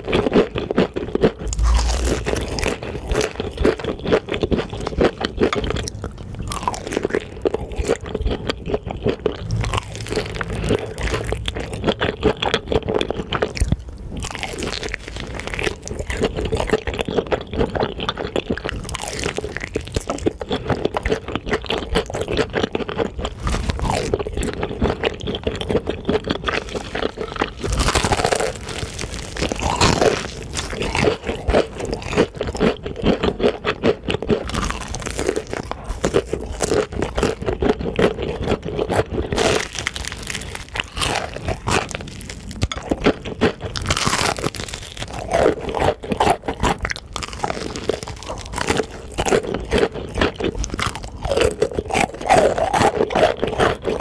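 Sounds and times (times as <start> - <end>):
crunching fried chicken: 0.0 - 54.0.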